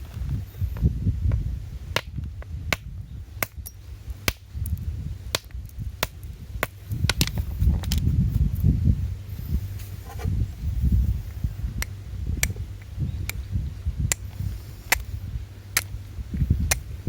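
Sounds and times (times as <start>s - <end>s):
wind rumbling: 0.0s - 17.0s.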